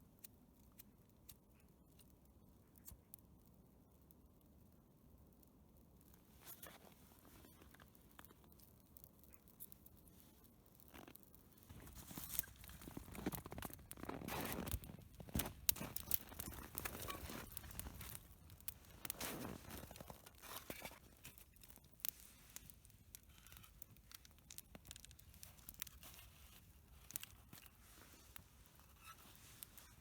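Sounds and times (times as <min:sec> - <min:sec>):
faint crunching and rustling: 0:06.0 - 0:30.0.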